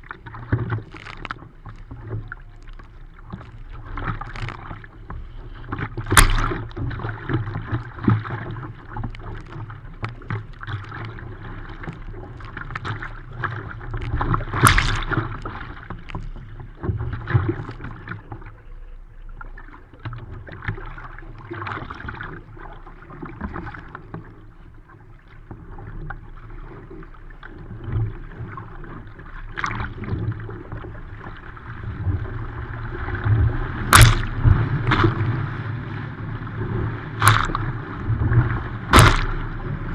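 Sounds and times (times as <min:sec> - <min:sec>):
paddle strokes: 0:00.0 - 0:39.9
water splashing against a boat hull: 0:00.0 - 0:39.9.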